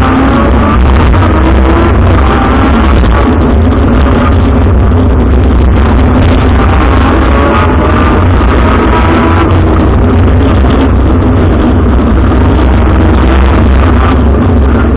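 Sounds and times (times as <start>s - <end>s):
car engine revving high: 0.0s - 14.9s.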